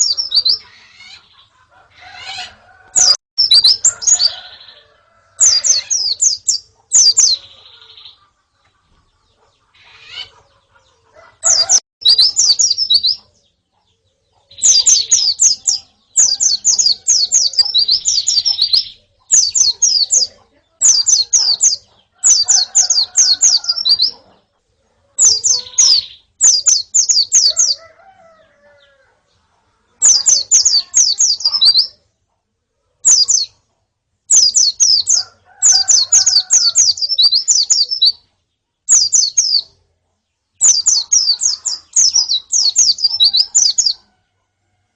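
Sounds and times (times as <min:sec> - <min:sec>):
birds chirping rapidly: 0:00.0 - 0:32.2, 0:32.9 - 0:44.4.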